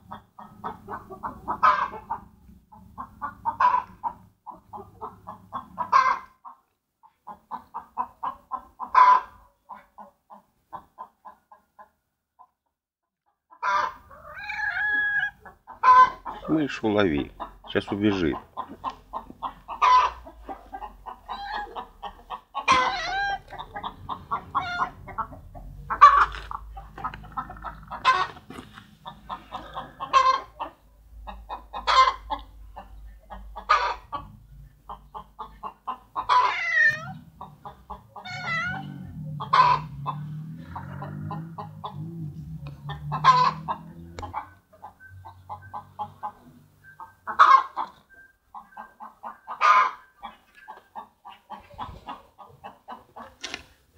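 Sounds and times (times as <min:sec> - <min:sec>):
chickens clucking: 0:00.0 - 0:12.6, 0:13.3 - 0:53.9.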